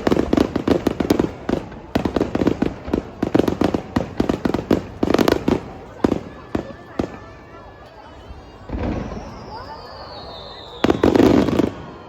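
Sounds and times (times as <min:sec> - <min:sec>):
fireworks bursting: 0:00.0 - 0:07.6, 0:08.6 - 0:12.0.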